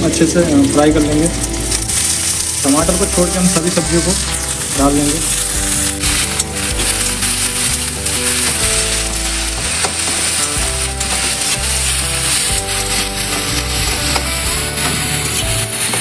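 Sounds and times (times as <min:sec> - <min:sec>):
vegetables sizzling in hot oil: 0:00.0 - 0:16.0
spatula scraping and tapping pan: 0:00.9 - 0:16.0.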